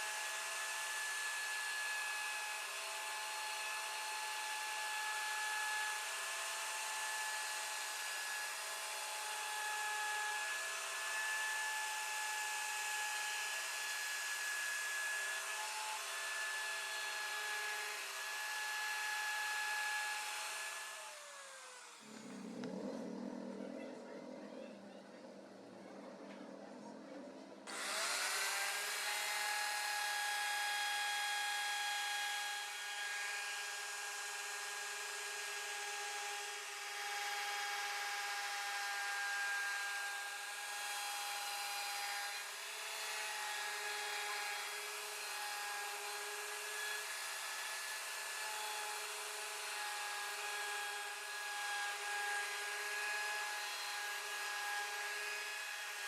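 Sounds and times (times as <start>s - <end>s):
router bit cutting board: 0.0s - 22.8s, 27.6s - 56.0s
router spindle whine: 0.0s - 22.9s, 27.6s - 56.0s.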